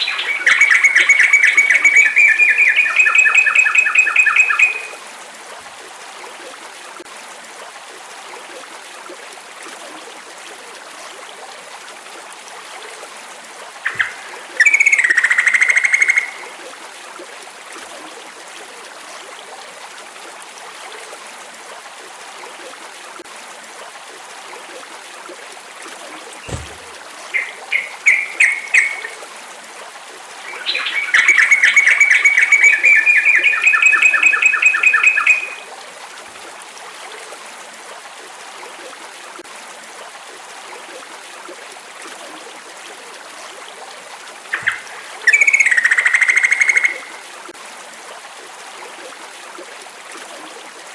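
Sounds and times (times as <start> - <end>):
stream-like hiss of nature: 0.0 - 50.9.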